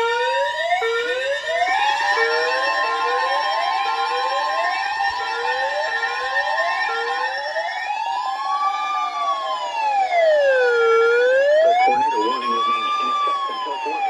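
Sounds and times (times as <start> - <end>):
siren wail rising and falling: 0.0 - 14.0.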